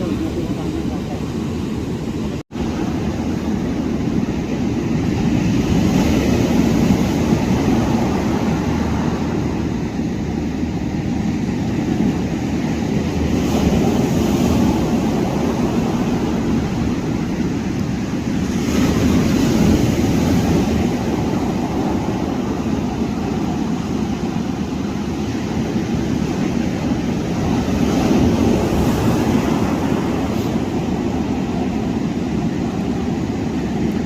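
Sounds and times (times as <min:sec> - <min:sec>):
ocean surf: 0:00.0 - 0:34.0
wind on microphone: 0:00.0 - 0:34.0.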